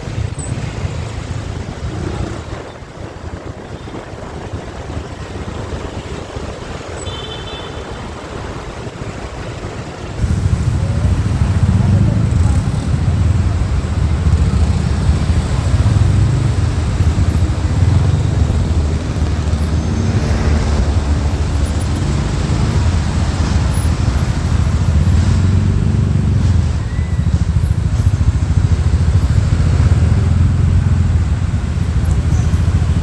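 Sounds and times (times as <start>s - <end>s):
motorcycle engine: 0.0s - 33.0s.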